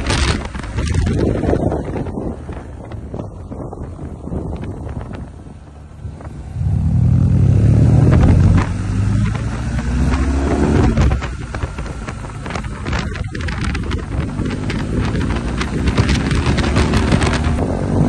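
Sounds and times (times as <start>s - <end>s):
motorcycle engine accelerating: 0.0s - 18.0s
wind rushing over microphone: 0.0s - 18.0s.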